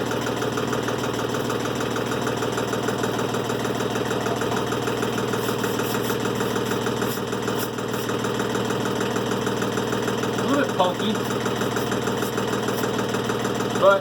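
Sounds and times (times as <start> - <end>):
sawmill engine idling: 0.0 - 14.0.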